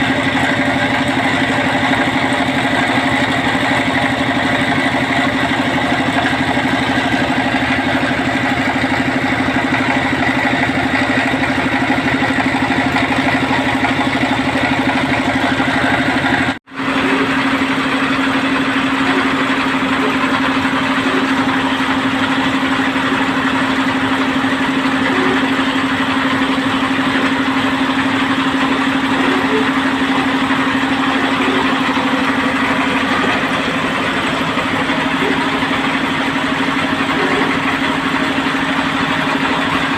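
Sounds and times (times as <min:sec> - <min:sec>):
drilling machine engine humming: 0:00.0 - 0:39.9.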